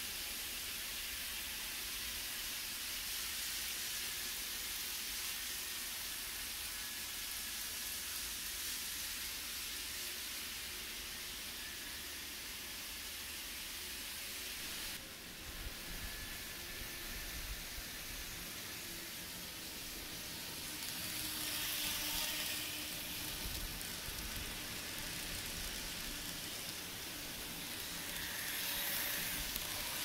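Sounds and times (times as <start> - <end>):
model trains running on track: 0.0 - 30.0.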